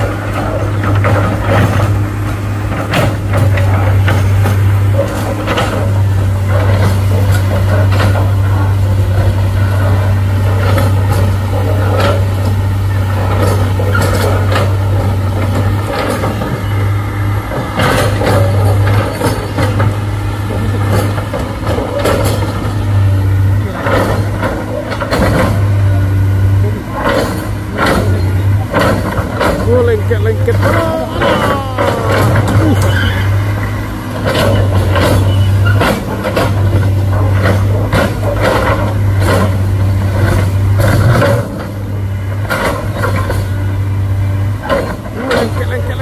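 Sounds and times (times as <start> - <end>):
sharp knocks and clanks: 0.0 - 25.9, 26.8 - 43.7, 44.6 - 46.0
heavy vehicle engine running: 0.0 - 46.0.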